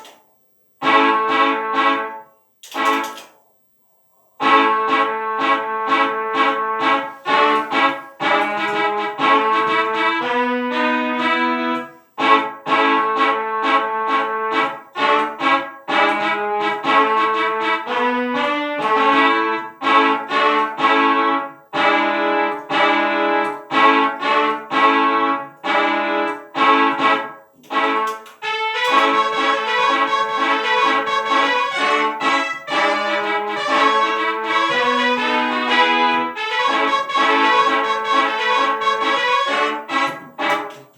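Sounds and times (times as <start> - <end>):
instrumental music with brass melody: 0.8 - 3.4, 4.4 - 40.9.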